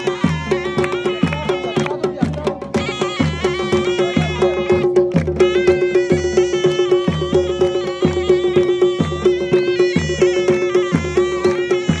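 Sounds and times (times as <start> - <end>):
deep drum beat: 0.0 - 12.0
wind instrument melody: 0.0 - 12.0.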